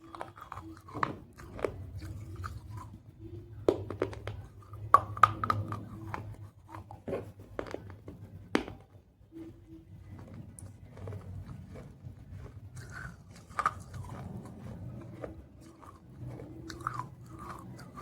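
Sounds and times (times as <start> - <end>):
clay pot being chewed: 0.0 - 18.0.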